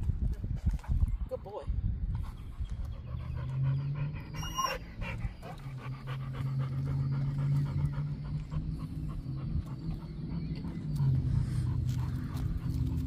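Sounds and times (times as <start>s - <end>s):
puppy panting rapidly: 2.2s - 13.0s.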